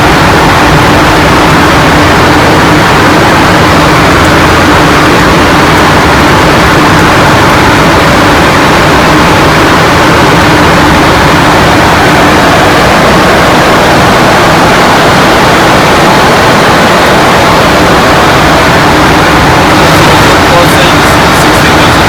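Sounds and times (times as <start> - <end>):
rush of air and engine: 0.0 - 22.0.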